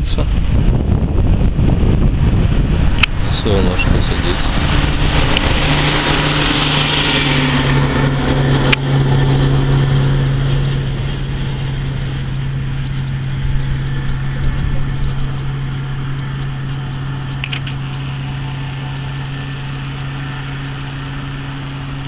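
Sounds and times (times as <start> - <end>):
broad rushing noise: 0.0 - 22.0
vehicle engine humming: 0.0 - 22.0.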